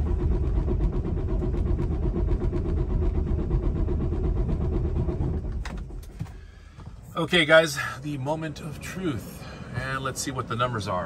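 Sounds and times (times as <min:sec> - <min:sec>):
diesel engine cranking: 0:00.0 - 0:11.0.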